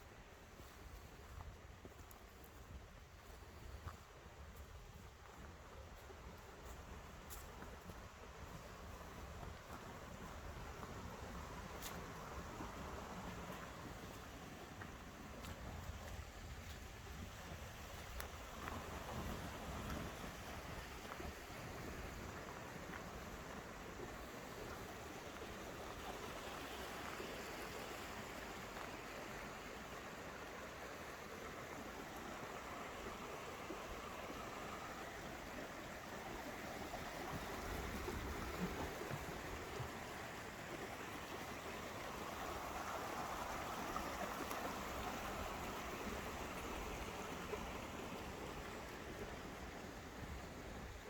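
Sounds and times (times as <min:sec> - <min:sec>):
stream flowing: 0:00.0 - 0:51.0.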